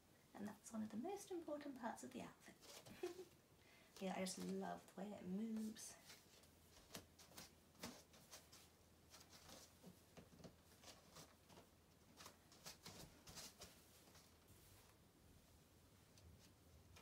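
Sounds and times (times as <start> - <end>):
light shuffling footsteps: 2.5 - 17.0.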